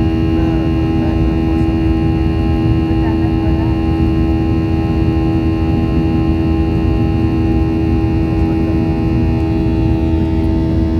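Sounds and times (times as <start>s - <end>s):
jet engines rumbling in cabin: 0.0s - 10.9s.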